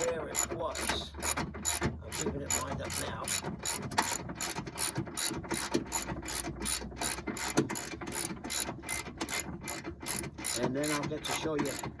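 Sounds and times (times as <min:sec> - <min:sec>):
ratchet wrench clicking: 0:00.0 - 0:11.9.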